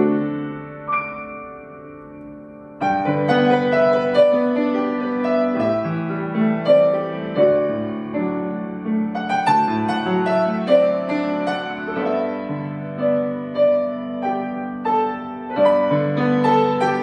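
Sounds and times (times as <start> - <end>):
solo piano hymn: 0.0 - 17.0.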